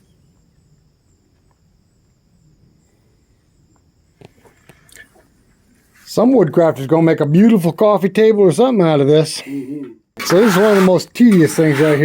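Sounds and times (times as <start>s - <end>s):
insects chirring: 0.0s - 9.2s, 9.9s - 12.0s.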